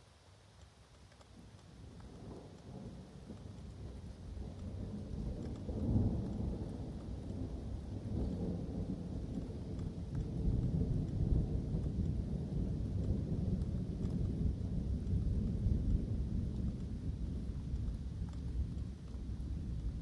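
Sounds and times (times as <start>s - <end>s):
falling rain: 0.0s - 20.0s.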